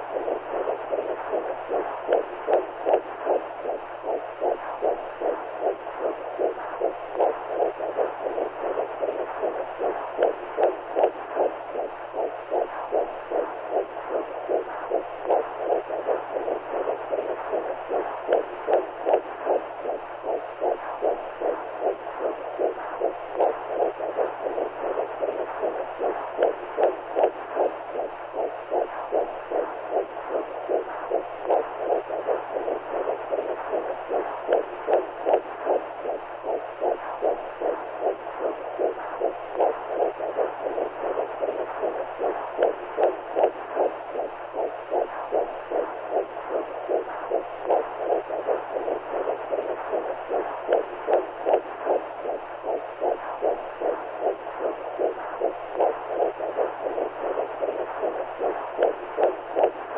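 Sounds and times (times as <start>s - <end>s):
constant low hum: 0.0s - 59.9s
heartbeat-like whooshing pulse: 0.0s - 59.9s.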